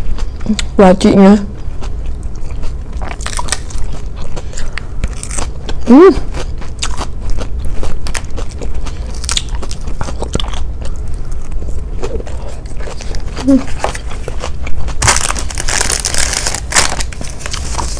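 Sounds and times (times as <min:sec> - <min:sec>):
crunchy chewing of salad: 0:00.0 - 0:17.9.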